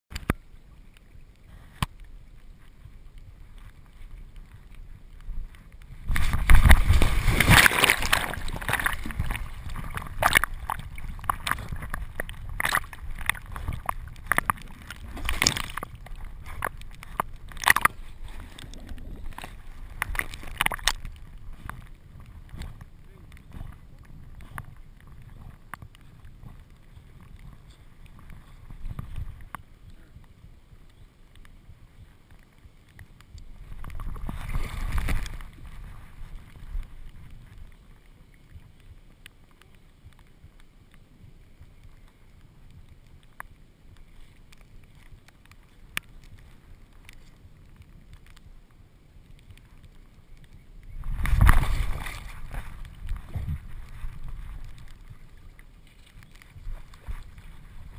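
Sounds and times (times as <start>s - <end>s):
water sloshing and splashing: 0.1s - 30.0s, 32.2s - 40.3s, 49.3s - 57.9s.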